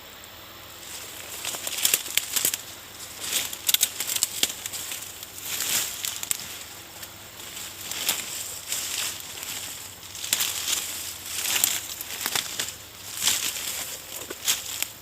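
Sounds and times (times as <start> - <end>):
rock and soil crunching: 0.7 - 15.0.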